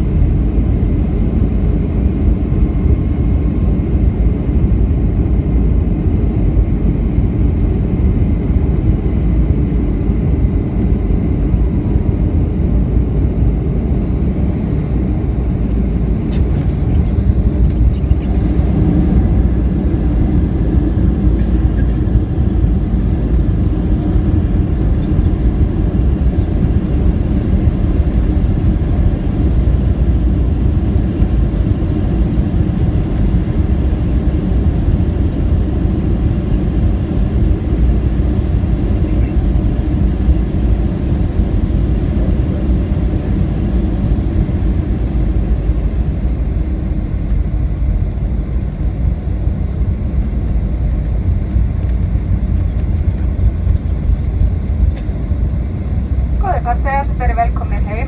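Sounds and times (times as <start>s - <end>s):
airplane cabin rumble on runway: 0.0s - 58.0s.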